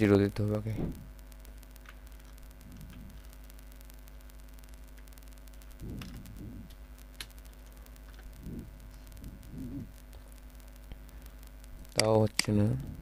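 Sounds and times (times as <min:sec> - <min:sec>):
low electrical hum: 0:00.0 - 0:13.0
soft low mumbles: 0:00.0 - 0:13.0.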